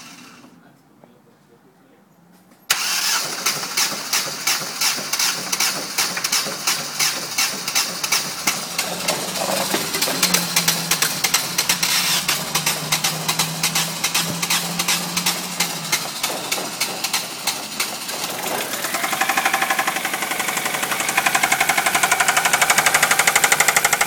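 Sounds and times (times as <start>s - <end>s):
car engine idling with knock: 3.2s - 24.0s.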